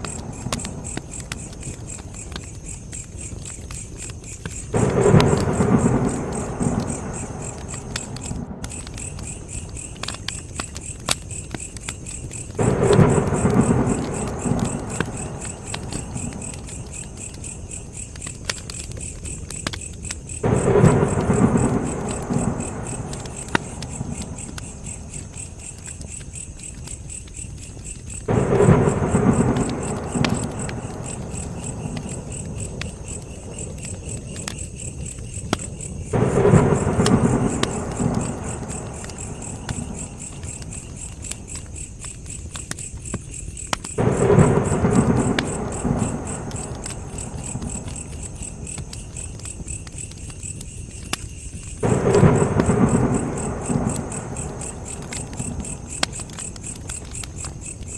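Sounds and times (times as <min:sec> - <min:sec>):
crackling campfire: 0:00.0 - 0:57.9
crickets chirping: 0:00.0 - 0:57.9.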